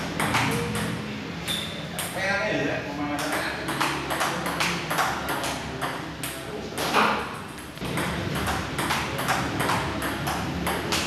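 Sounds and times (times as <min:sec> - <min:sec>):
table tennis ball hits: 0:00.1 - 0:02.2, 0:03.2 - 0:11.0.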